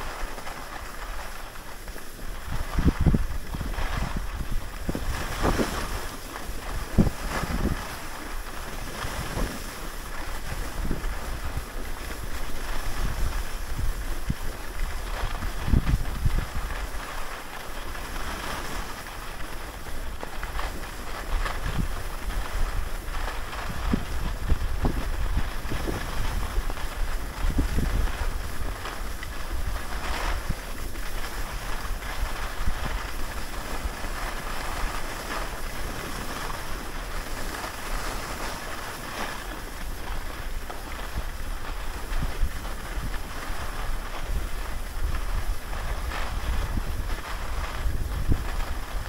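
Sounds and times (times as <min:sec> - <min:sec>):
ski scrapes on snow: 0:00.0 - 0:49.0
skis sliding on snow: 0:00.0 - 0:49.0
wind buffeting microphone: 0:00.0 - 0:49.0.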